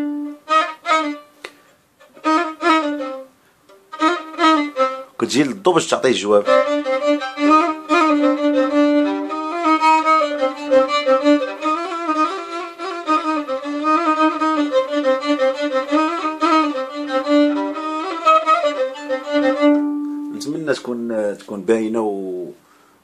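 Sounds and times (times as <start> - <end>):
violin playing ornamented phrase: 0.0 - 1.4, 2.0 - 22.4.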